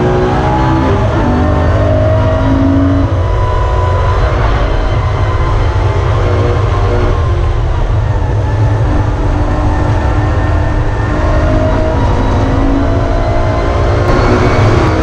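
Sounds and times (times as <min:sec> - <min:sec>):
car engine running hard: 0:00.0 - 0:15.0
tyre and road noise: 0:00.0 - 0:15.0.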